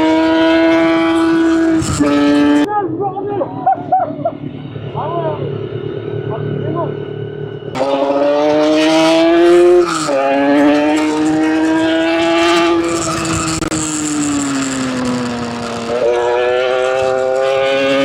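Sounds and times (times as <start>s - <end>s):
motorcycle engine revving: 0.0s - 2.7s, 3.6s - 18.0s.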